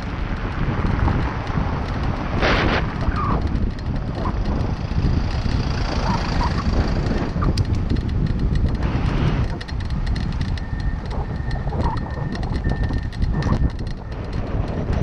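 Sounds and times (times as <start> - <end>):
tyres rumbling on brick road: 0.0 - 15.0
wind buffeting microphone: 0.0 - 15.0.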